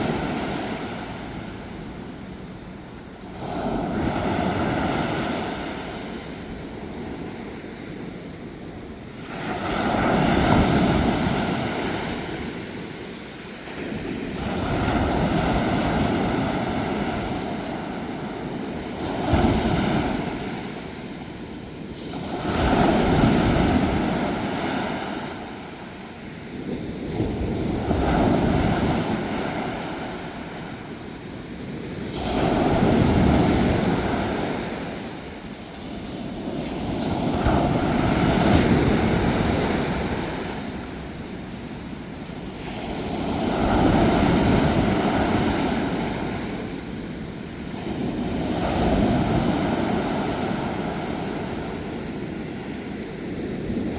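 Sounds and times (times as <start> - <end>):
sea waves washing: 0.0 - 53.9.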